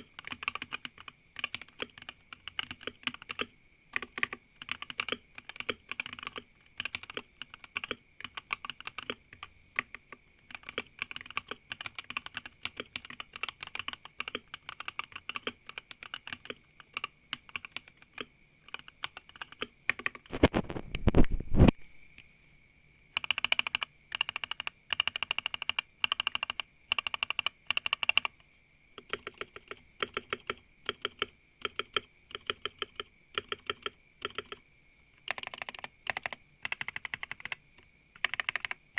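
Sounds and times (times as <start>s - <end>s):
mechanical keyboard typing: 0.0s - 21.7s, 23.2s - 28.4s, 29.0s - 34.6s, 35.2s - 38.9s.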